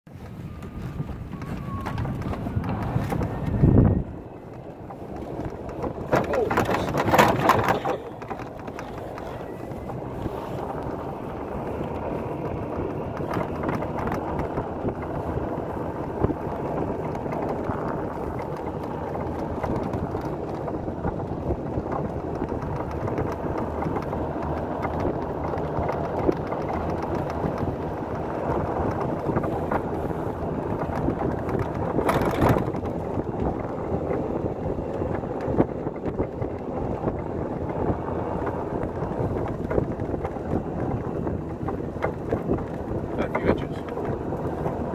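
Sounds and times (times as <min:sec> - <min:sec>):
golf cart running on snow: 0:00.1 - 0:44.9
wind on microphone: 0:00.1 - 0:44.9.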